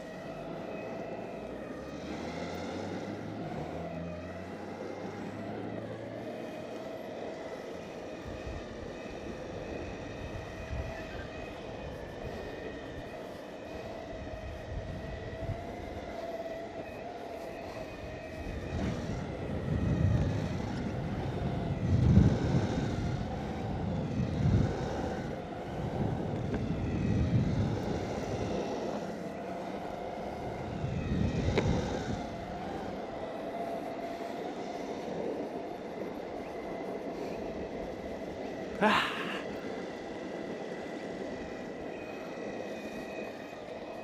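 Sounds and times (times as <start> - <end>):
electric motor whine: 0.0 - 44.0
wheels rolling on pavement: 0.0 - 44.0.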